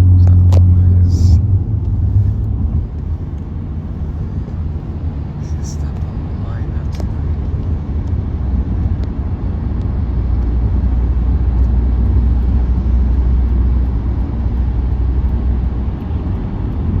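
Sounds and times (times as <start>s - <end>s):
road and tyre rumble in car: 0.0s - 17.0s.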